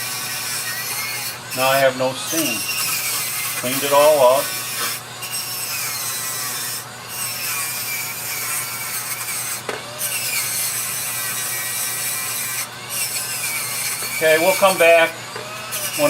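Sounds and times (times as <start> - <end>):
abrasive wheel rubbing wood: 0.0 - 16.0
rotary tool humming: 0.0 - 16.0.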